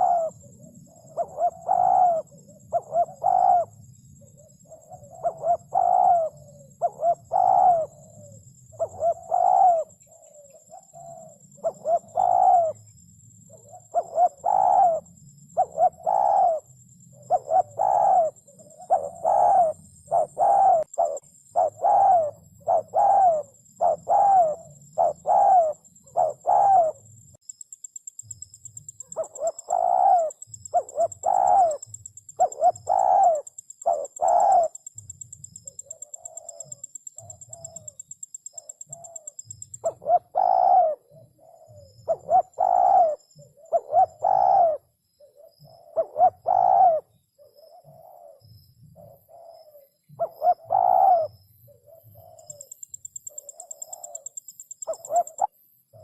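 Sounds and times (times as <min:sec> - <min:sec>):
dove cooing: 0:00.0 - 0:27.1, 0:28.8 - 0:56.0.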